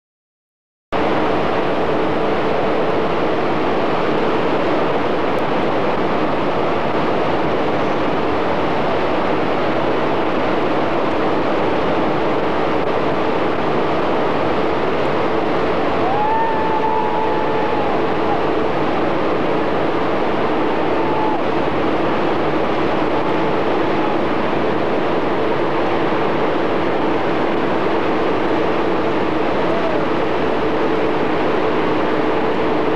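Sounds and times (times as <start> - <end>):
whitewater rushing in rapids: 1.0 - 32.9.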